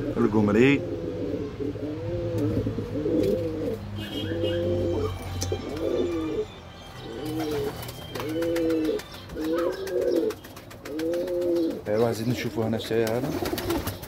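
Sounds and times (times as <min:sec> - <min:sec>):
pigeons cooing: 0:00.0 - 0:14.0
small birds chirping: 0:00.0 - 0:14.0.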